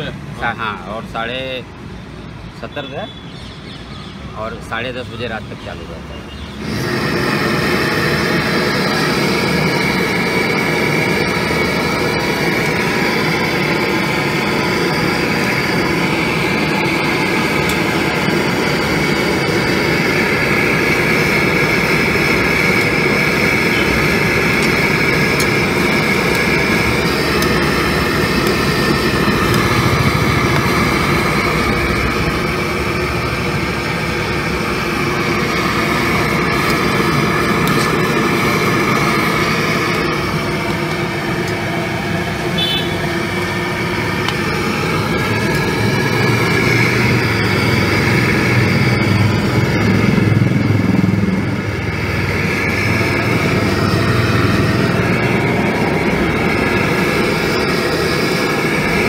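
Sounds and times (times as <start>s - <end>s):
gas burner roaring: 0.0s - 59.0s.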